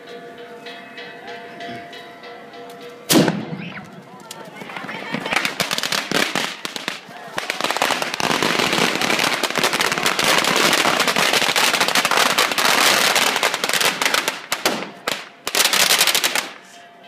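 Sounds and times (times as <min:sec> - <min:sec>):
firecrackers crackling: 0:03.1 - 0:16.8.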